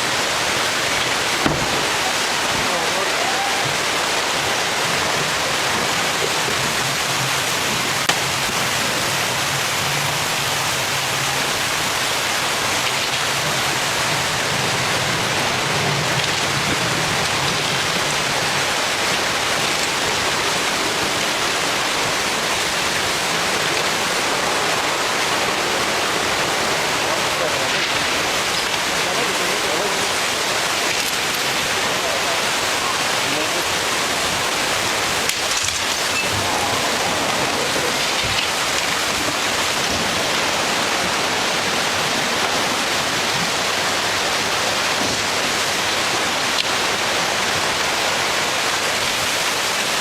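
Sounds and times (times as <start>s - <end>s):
rushing water: 0.0s - 50.0s.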